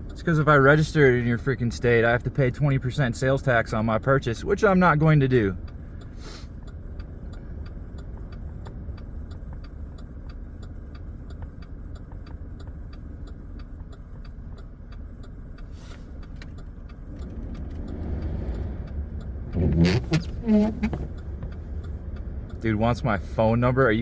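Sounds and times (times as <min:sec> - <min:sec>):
light ticking: 0:00.0 - 0:24.0
truck engine idling: 0:02.9 - 0:24.0.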